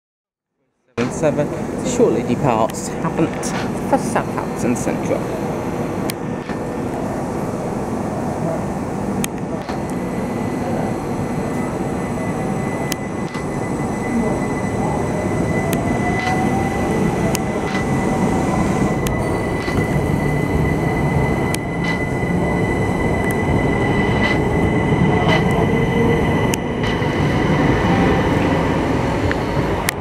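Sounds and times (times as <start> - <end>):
constant high tone: 1.0 - 30.0
rising electric motor whine: 1.0 - 30.0
train wheels rumbling: 1.0 - 30.0.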